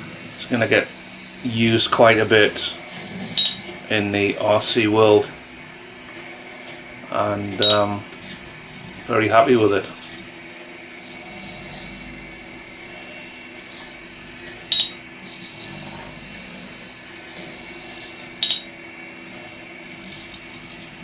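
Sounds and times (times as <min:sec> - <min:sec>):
servos whirring: 0:00.0 - 0:21.0.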